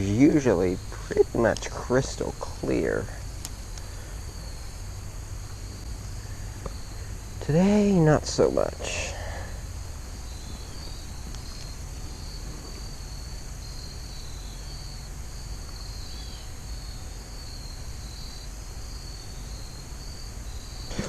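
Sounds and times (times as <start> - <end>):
insects trilling: 0.0 - 21.0
low outdoor rumble: 0.0 - 21.0.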